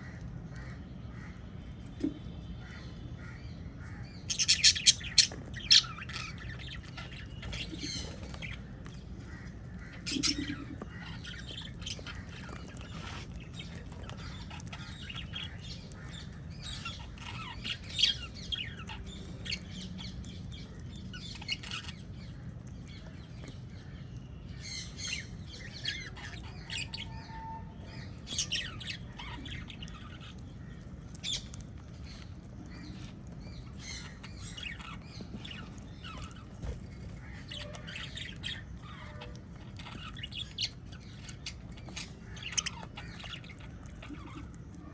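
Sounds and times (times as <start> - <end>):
parrots chirping and squawking: 0.0 - 44.9.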